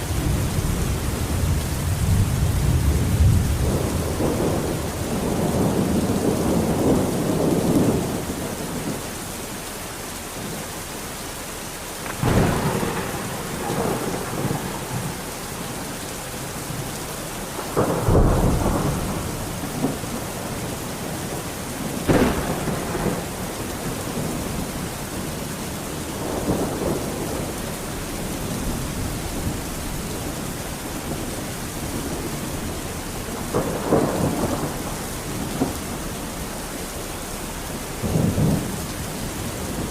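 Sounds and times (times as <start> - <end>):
thunder rumbling and cracking: 0.0 - 9.1, 12.0 - 39.9
steady rain: 0.0 - 39.9.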